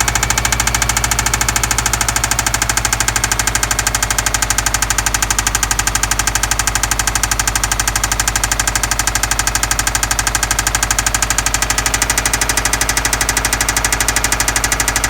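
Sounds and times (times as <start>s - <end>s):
car engine idling with ticking knock: 0.0s - 15.0s.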